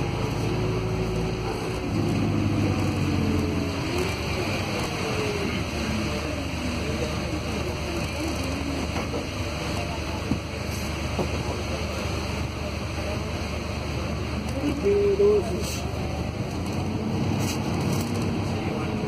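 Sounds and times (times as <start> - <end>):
bus drivetrain drone: 0.0 - 19.0
road noise: 0.0 - 19.0.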